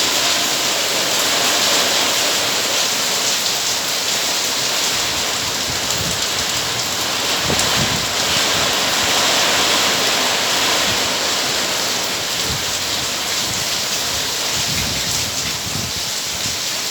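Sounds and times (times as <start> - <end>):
heavy rain hissing: 0.0 - 16.9.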